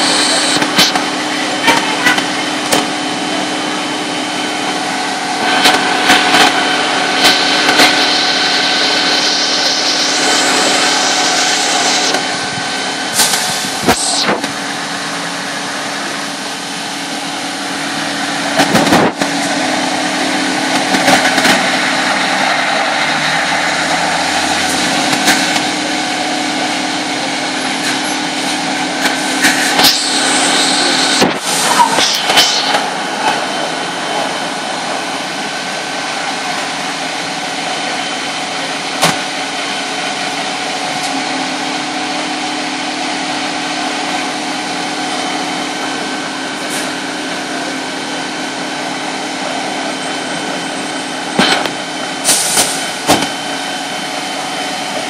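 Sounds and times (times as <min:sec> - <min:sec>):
fire engines running: 0:00.0 - 0:55.0.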